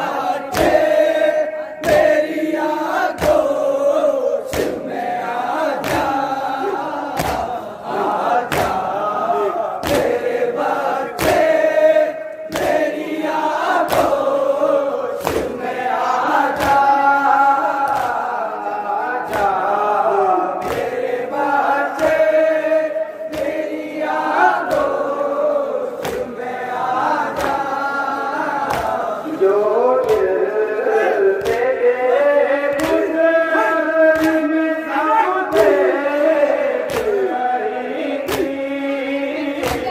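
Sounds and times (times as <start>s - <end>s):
chest slaps on a steady beat: 0.0s - 39.9s
men chanting in chorus: 0.0s - 39.9s.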